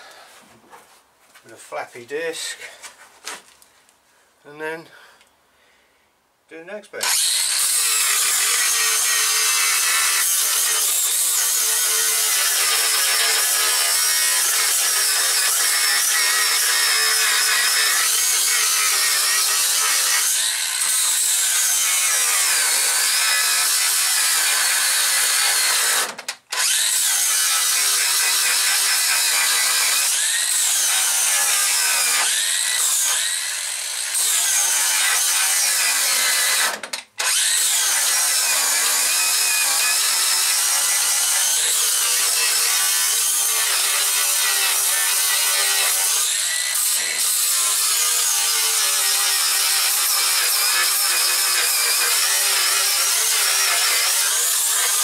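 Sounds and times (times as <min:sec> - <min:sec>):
angle grinder grinding steel: 0:07.0 - 0:55.0.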